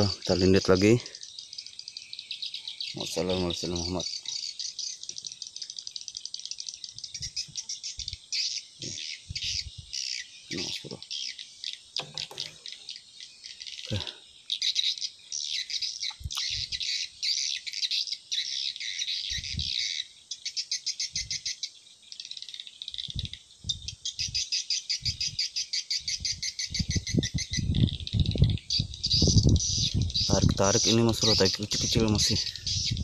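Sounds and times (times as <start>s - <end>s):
birds chirping in trills: 0.0s - 33.0s.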